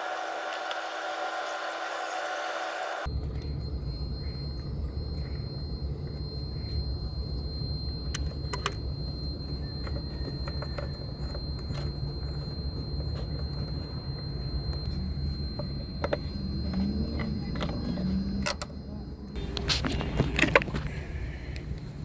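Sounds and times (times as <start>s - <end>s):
thin high whine: 0.0s - 22.0s.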